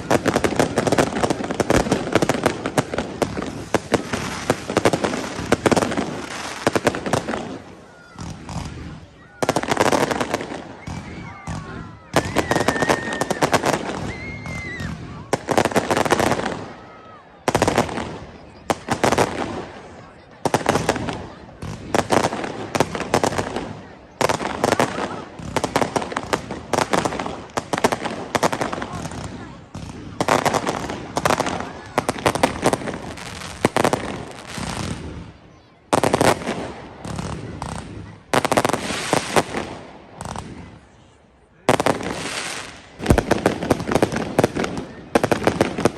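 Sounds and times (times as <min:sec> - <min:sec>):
fireworks banging and crackling: 0:00.0 - 0:45.9.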